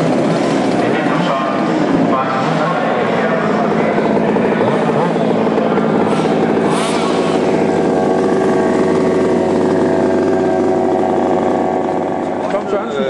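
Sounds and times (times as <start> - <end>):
model car engines buzzing: 0.0 - 13.0.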